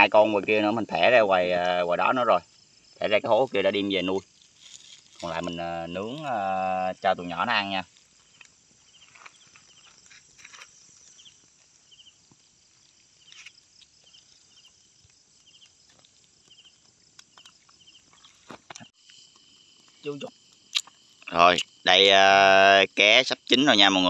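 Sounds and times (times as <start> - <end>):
insect chirping: 0.0 - 24.0
fire crackling and popping: 0.2 - 24.0.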